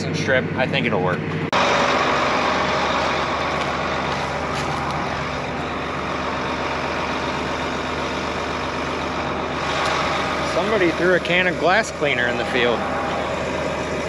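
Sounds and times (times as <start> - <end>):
tractor engine droning: 0.0 - 14.0.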